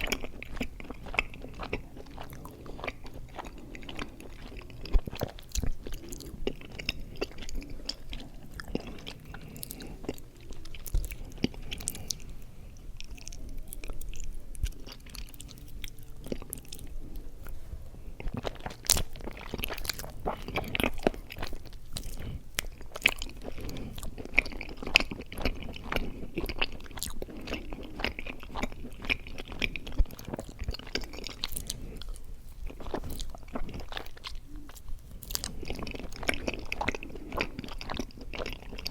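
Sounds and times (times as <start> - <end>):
sticky chewing mouth sounds: 0.0 - 38.9.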